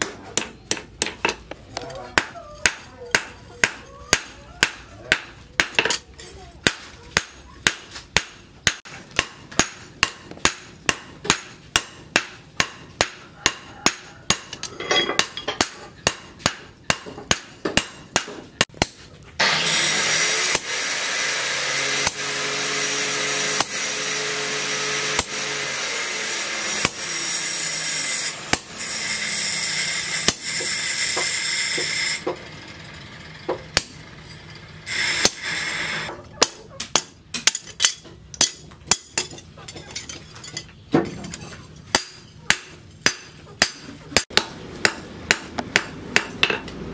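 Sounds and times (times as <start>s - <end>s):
hammer striking hot metal on anvil: 2.2s - 6.0s, 6.6s - 19.2s, 20.0s - 32.4s, 33.5s - 34.0s, 34.9s - 39.4s, 41.9s - 46.8s.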